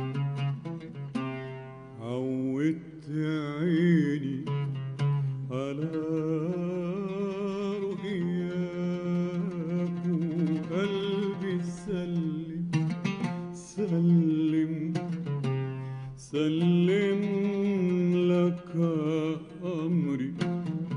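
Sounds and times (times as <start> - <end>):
oud plucking: 0.0 - 20.9.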